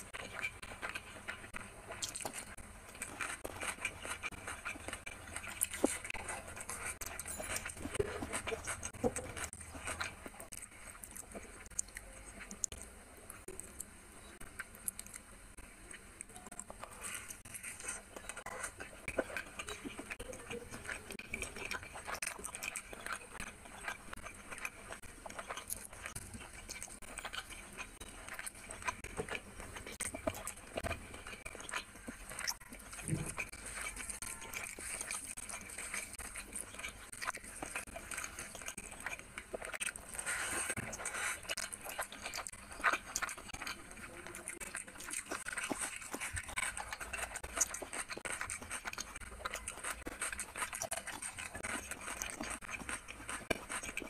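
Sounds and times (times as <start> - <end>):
chewing: 0.0 - 54.0
fingers squishing rice: 0.0 - 54.0.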